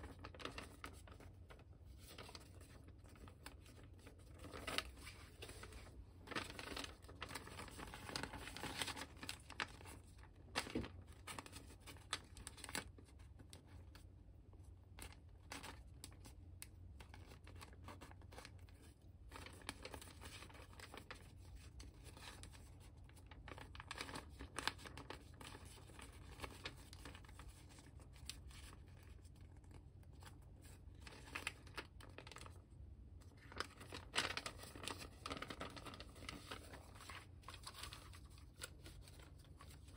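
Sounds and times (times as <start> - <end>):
crisp paper crackles: 0.0 - 39.9
paper rustling and crinkling: 0.0 - 39.9.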